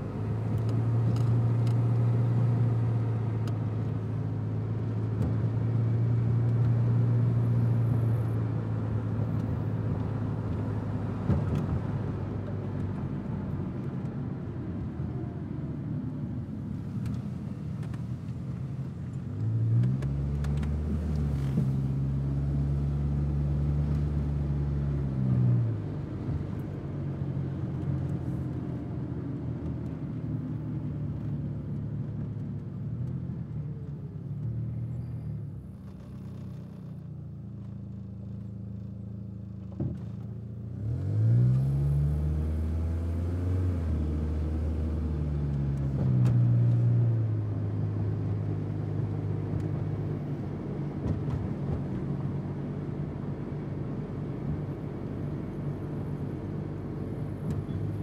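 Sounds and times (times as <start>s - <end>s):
car engine: 0.0s - 58.0s
road noise: 0.0s - 58.0s.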